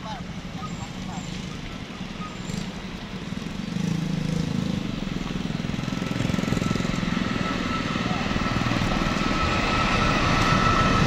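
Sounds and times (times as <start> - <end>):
diesel train rumble: 0.0 - 11.0.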